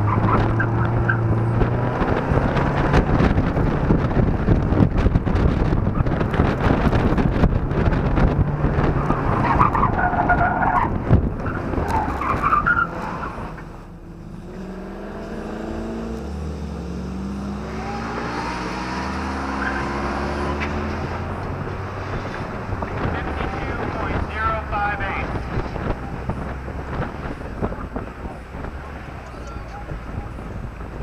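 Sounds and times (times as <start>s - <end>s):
engine running at low revs: 0.0s - 12.2s, 12.8s - 31.0s
car engine under load: 0.0s - 31.0s.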